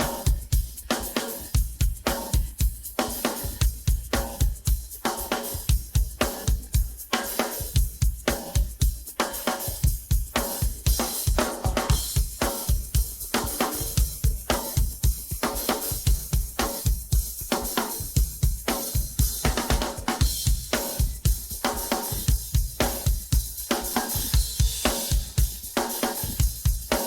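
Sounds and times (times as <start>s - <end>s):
drum kit funk groove: 0.0s - 27.0s.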